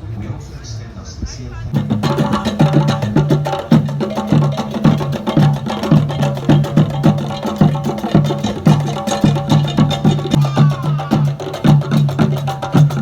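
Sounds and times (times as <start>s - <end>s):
steady percussive beat: 1.7s - 13.0s.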